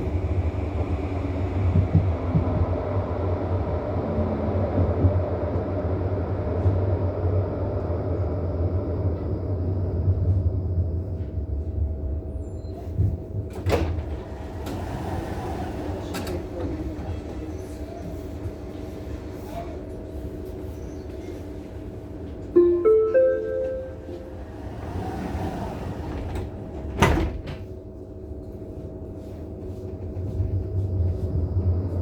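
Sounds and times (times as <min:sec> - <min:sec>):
tram rumbling: 0:00.0 - 0:32.0.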